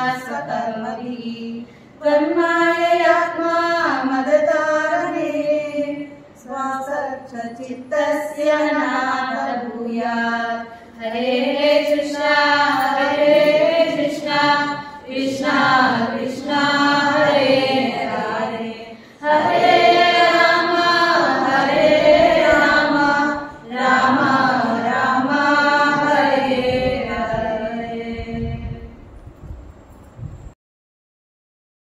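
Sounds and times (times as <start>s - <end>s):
women chanting a devotional song: 0.0s - 29.0s.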